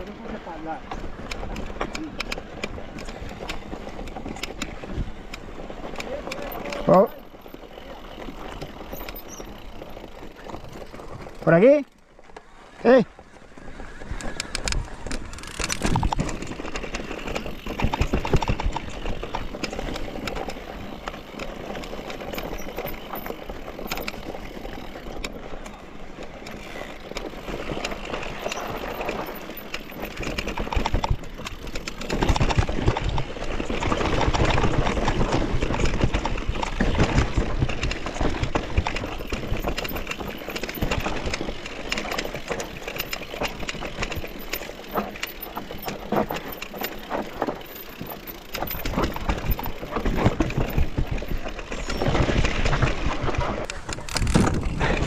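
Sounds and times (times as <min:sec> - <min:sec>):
bike rattling clicks: 0:00.0 - 0:12.6, 0:13.2 - 0:55.0
bike tyres rolling over dirt: 0:00.0 - 0:55.0.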